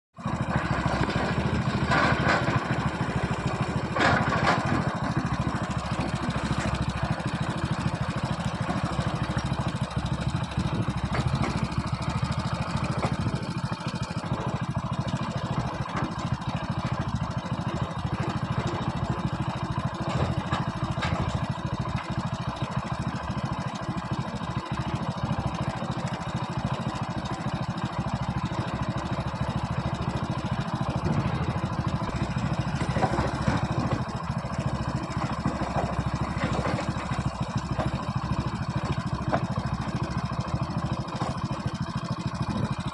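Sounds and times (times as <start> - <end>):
heavy diesel engines running: 0.2 - 42.9.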